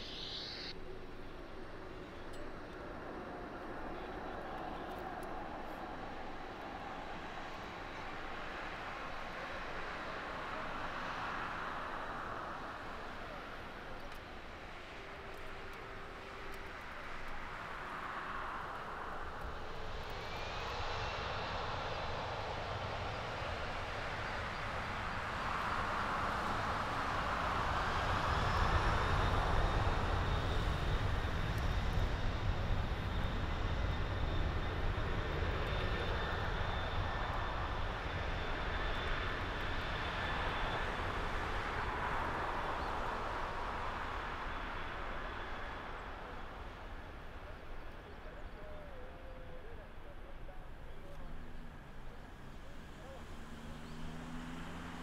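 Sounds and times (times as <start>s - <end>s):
jet engines spooling up: 0.0s - 55.0s.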